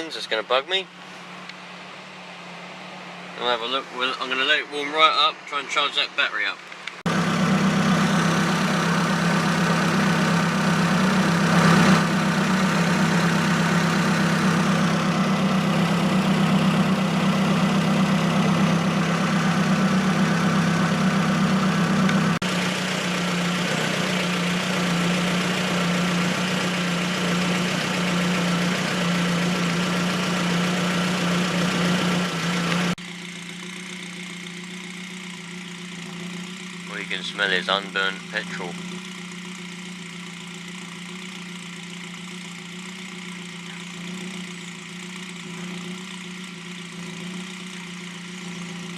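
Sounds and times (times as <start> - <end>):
car engine idling: 6.6 - 48.9.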